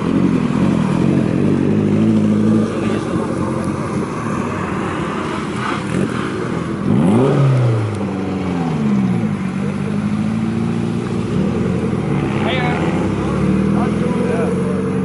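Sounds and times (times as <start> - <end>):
car engines running: 0.0 - 15.0
engine revving: 0.0 - 15.0.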